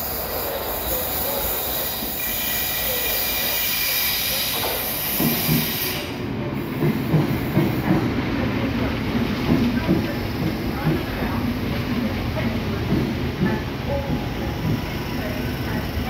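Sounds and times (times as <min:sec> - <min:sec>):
train hiss: 0:00.0 - 0:16.0.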